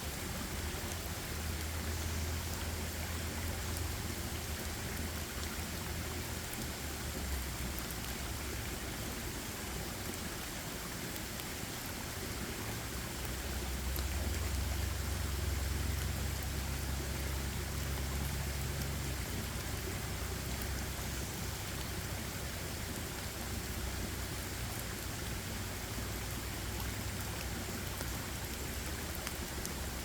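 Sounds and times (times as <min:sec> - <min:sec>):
rain falling in forest: 0:00.0 - 0:30.0.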